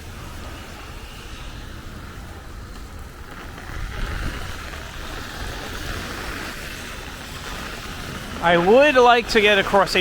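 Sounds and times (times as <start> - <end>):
heavy rain hiss: 0.0 - 10.0
wind buffeting microphone: 0.0 - 10.0.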